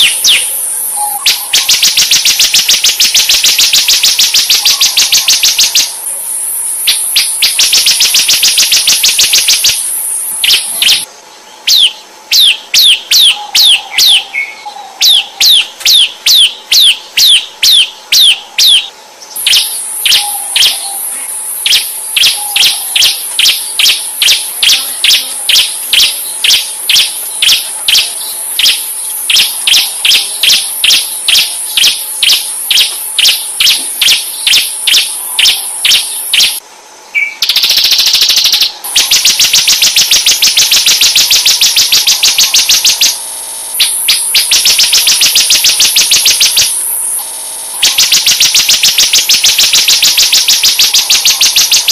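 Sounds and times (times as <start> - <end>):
high-pitched hiss: 0.0 - 11.1, 19.3 - 36.6, 37.4 - 51.9
bird chattering and whistling: 0.0 - 43.2, 43.8 - 47.2, 47.8 - 51.9.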